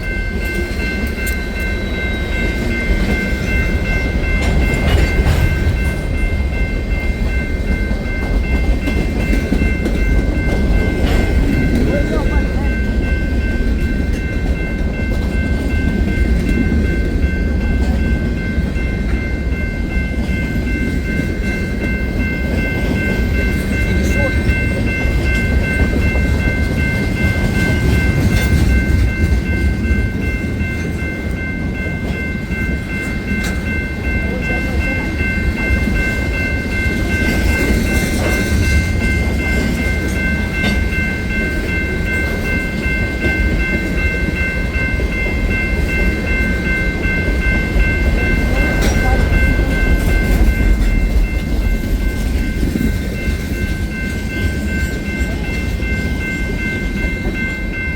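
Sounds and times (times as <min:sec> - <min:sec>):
high-pitched multi-note tone: 0:00.0 - 0:57.9
train rumbling past: 0:00.0 - 0:57.9.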